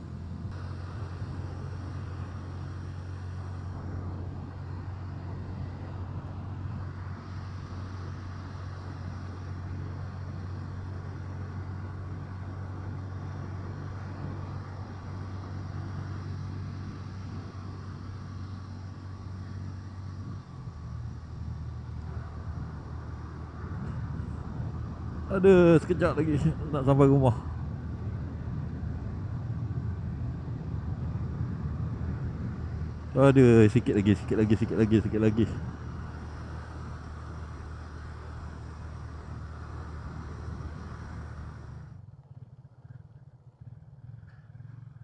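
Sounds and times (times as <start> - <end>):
motorcycle engine cruising: 0.0 - 45.0
road and wind noise: 0.0 - 45.0.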